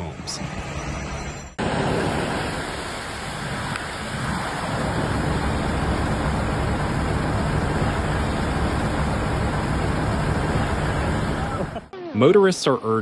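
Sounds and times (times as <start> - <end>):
steady rushing noise with low rumble: 0.0 - 11.9.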